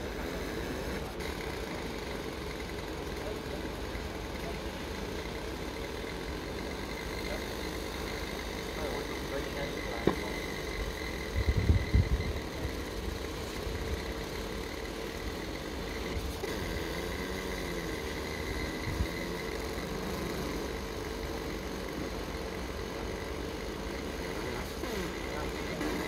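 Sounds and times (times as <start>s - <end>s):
laser machine humming and whining: 0.0s - 26.0s.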